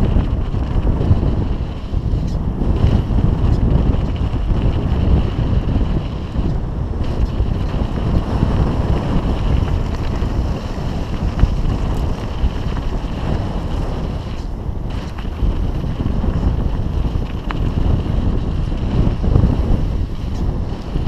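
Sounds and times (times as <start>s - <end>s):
tyres rumbling on trail: 0.0s - 21.0s
wind buffeting microphone: 0.0s - 21.0s.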